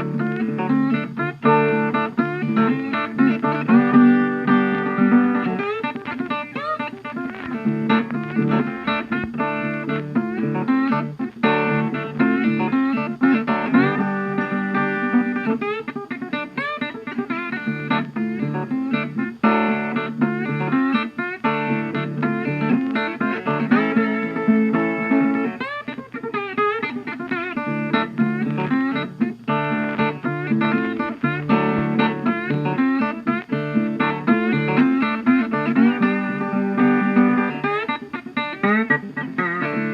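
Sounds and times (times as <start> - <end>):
guitar background music: 0.0 - 39.9.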